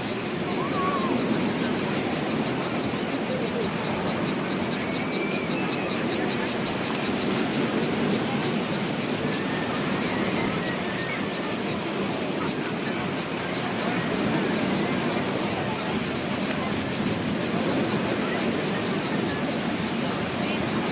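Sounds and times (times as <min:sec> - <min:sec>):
beach surf: 0:00.0 - 0:20.9
insects trilling: 0:00.0 - 0:20.9.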